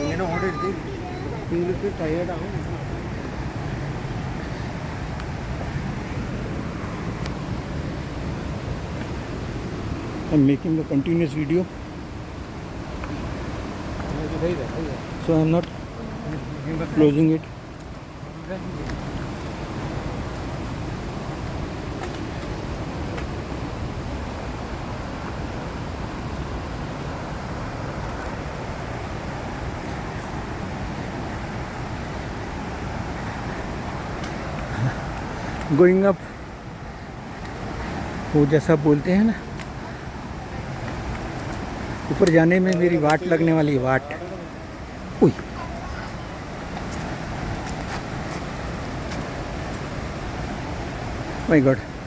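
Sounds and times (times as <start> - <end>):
faint high whine: 0.0 - 42.1
waterfall roaring: 0.0 - 52.0.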